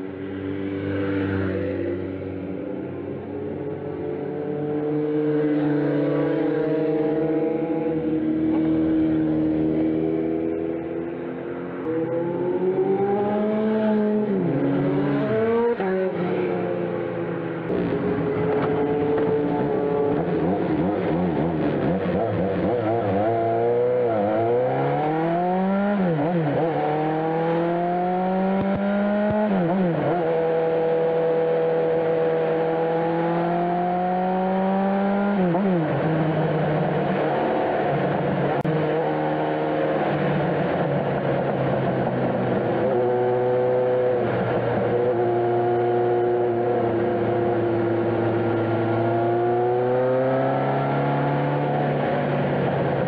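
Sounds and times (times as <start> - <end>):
motorcycle engine accelerating: 0.3 - 53.0.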